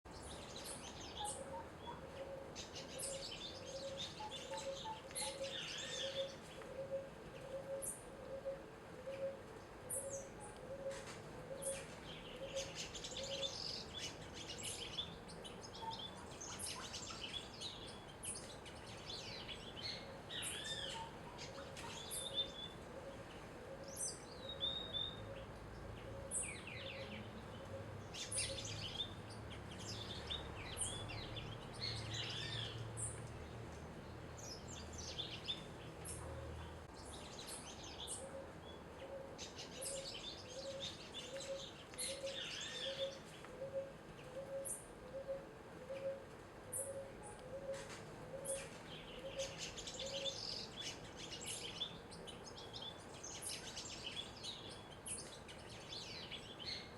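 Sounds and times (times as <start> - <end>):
small birds chirping and trilling: 0.1 - 56.9.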